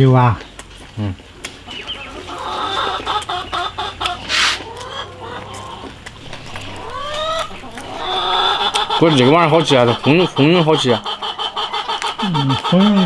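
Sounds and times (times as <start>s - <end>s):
chickens clucking: 0.2s - 13.0s
hen calls rising in pitch: 2.3s - 13.0s.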